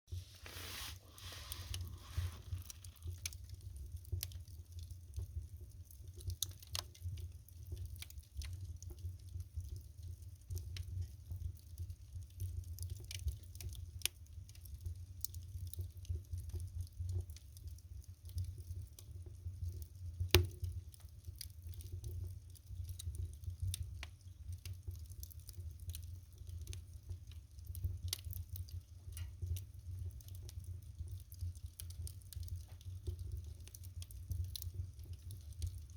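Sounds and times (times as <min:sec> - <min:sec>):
wood fire crackling: 0:00.1 - 0:35.9.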